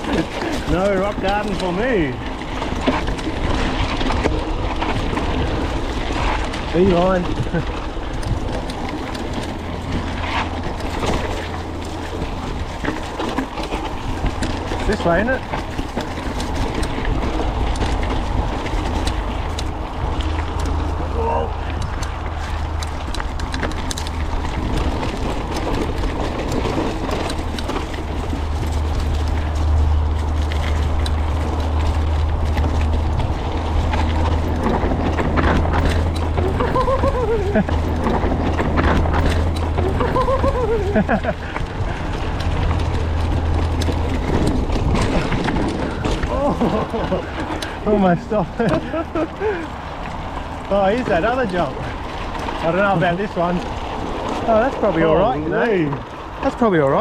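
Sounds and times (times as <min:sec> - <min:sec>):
bike clicks and rattles: 0:00.0 - 0:57.0
tyre noise on dirt: 0:00.0 - 0:57.0
wind rumbling on microphone: 0:00.0 - 0:57.0.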